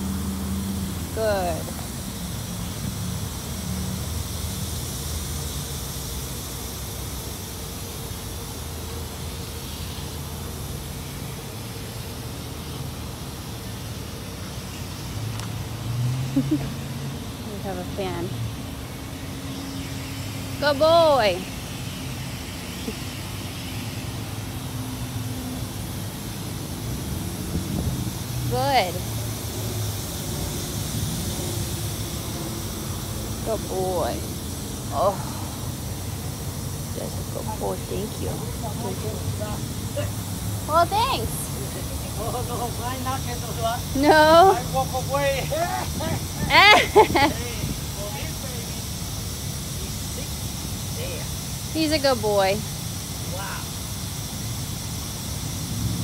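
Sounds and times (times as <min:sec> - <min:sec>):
low mechanical hum: 0:00.0 - 0:56.0
steady hiss: 0:00.0 - 0:56.0.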